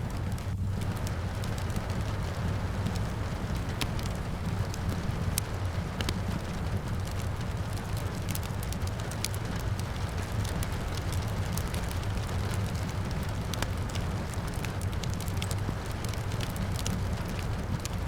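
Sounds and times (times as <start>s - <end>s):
rain falling: 0.0s - 18.0s
wood fire crackling and popping: 0.0s - 18.0s.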